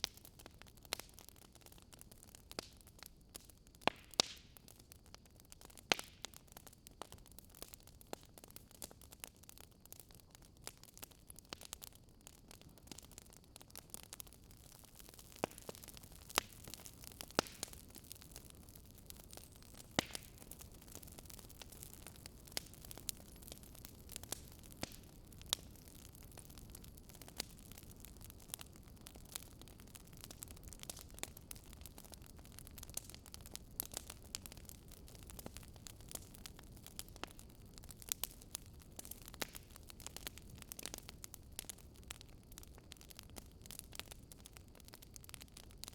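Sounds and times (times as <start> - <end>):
faint steady hiss: 0.0 - 45.9
wood fire crackling and popping: 0.0 - 45.9.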